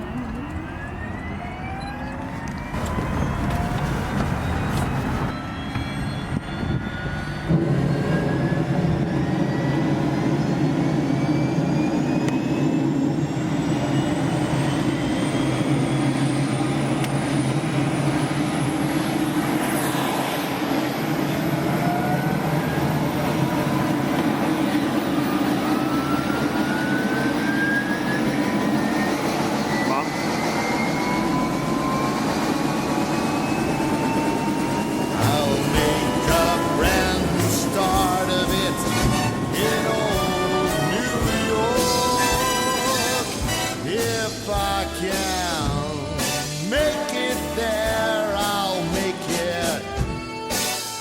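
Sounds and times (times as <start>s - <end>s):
helicopter engine and rotor: 0.0s - 51.0s
rising turbine whine: 0.0s - 51.0s.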